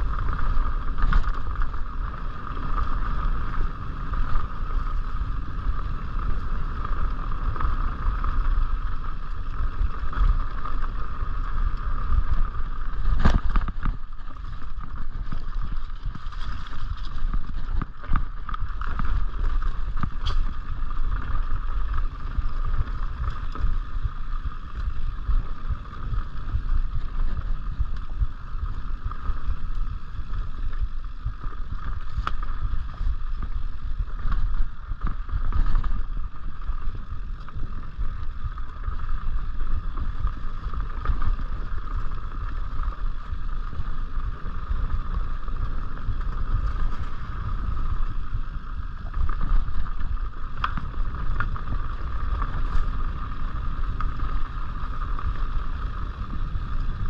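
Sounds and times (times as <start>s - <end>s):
bike rattling and clicking: 0.0s - 57.0s
constant high buzz: 0.0s - 57.0s
tyres rumbling on dirt trail: 0.0s - 57.0s
wind buffeting microphone: 0.0s - 57.0s.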